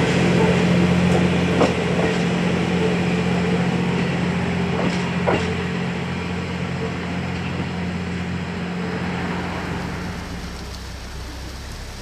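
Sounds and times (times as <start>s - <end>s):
steam train rumbling past: 0.0s - 12.0s.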